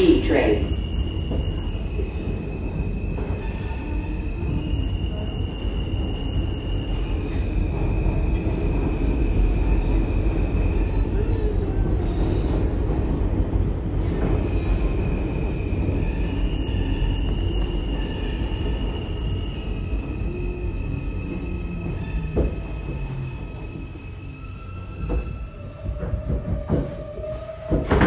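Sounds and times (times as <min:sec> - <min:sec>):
subway wheels rumbling on track: 0:00.0 - 0:28.0.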